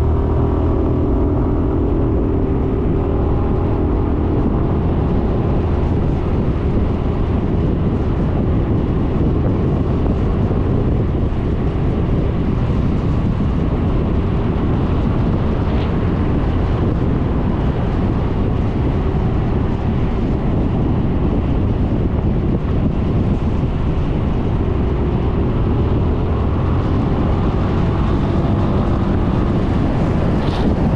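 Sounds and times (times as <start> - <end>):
road noise: 0.0 - 30.9
wind rushing over microphone: 0.0 - 30.9.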